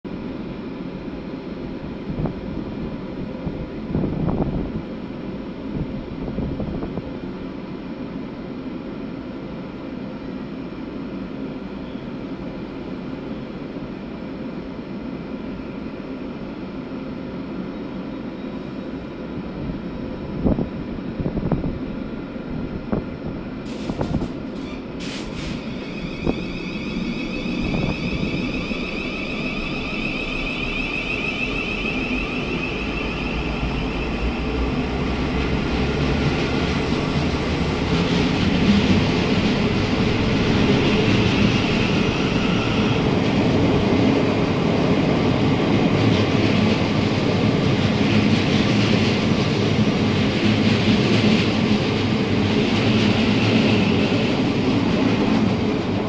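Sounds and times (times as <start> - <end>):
train humming: 0.1 - 56.0.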